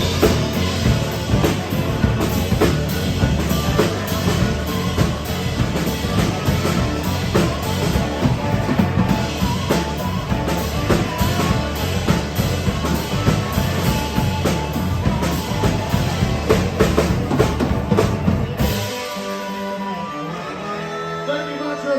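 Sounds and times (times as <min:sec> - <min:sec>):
drum kit kick and snare beat: 0:00.0 - 0:19.4
live band playing instrumentals: 0:00.0 - 0:21.9.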